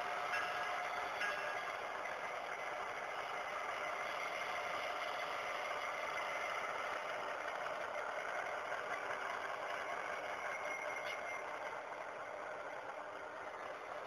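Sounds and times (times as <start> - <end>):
diesel engine idle through tiny speaker: 0.0 - 14.0.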